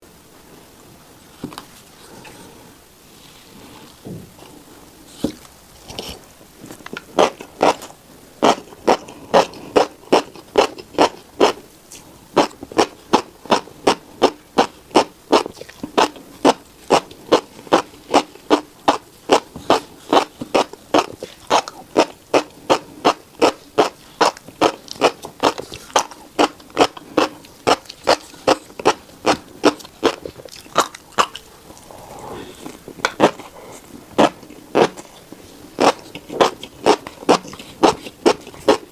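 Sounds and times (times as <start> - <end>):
chewing seeds: 5.8 - 38.9.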